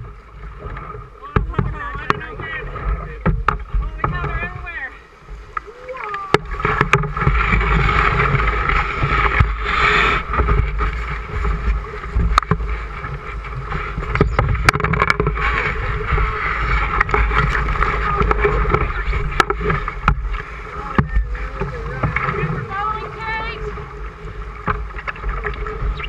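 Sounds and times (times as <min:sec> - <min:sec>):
river water rushing and gurgling: 0:00.0 - 0:26.0
wind rumble on microphone: 0:00.0 - 0:26.0.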